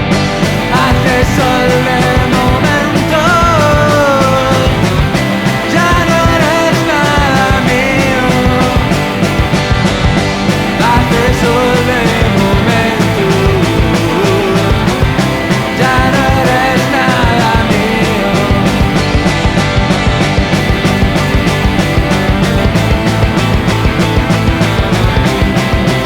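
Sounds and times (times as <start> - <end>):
bass and electric guitars: 0.0 - 26.0
bending lead guitar line: 0.0 - 26.0
drums keeping steady beat: 0.0 - 26.0.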